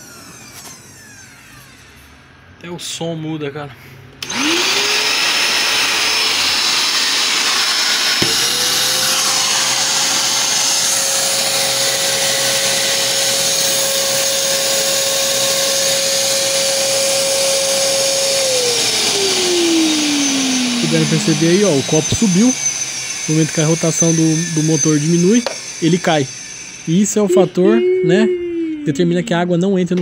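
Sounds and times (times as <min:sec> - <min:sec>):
vacuum cleaner motor whine: 0:00.0 - 0:02.3, 0:04.2 - 0:28.2.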